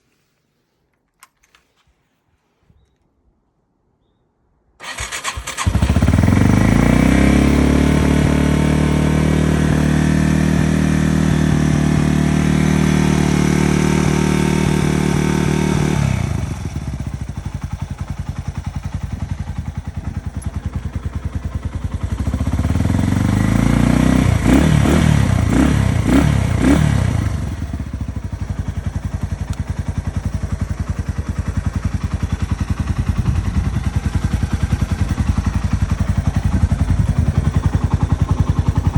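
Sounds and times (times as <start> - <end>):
motorcycle engine idling and revving: 4.8 - 38.9.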